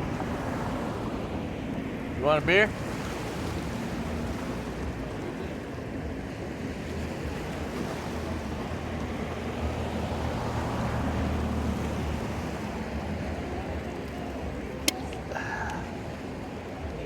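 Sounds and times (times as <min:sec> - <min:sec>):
ocean surf washing ashore: 0:00.0 - 0:17.0
wind rumble on microphone: 0:00.0 - 0:17.0.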